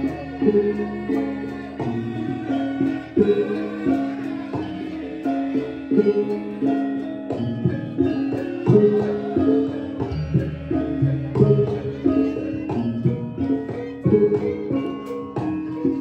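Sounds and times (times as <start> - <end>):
drum strokes: 0.0 - 16.0
ringing struck metal notes: 0.0 - 16.0.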